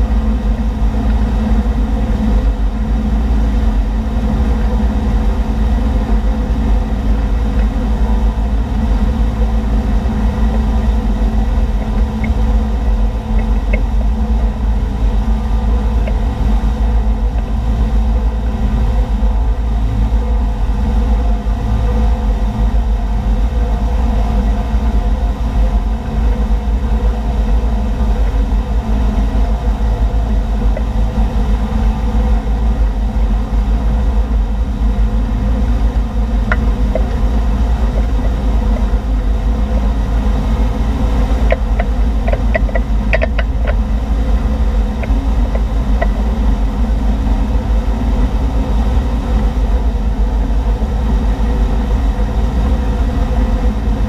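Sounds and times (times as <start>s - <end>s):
boat engine droning: 0.0s - 54.0s
rushing boat wake: 0.0s - 54.0s.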